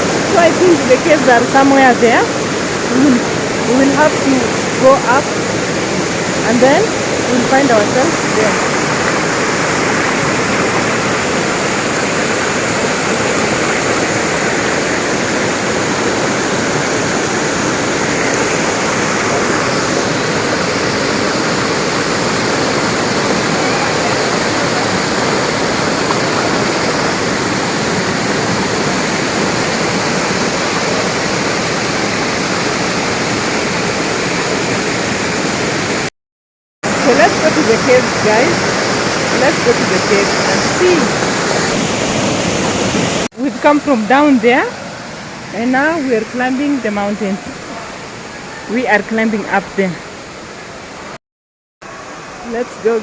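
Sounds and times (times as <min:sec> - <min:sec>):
waterfall roaring: 0:00.0 - 0:36.1, 0:36.9 - 0:51.2, 0:51.8 - 0:53.0.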